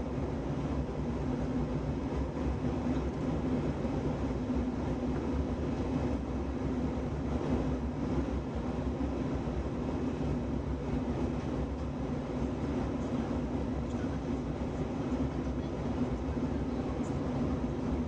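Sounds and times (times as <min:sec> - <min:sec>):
jet engines droning: 0:00.0 - 0:18.0.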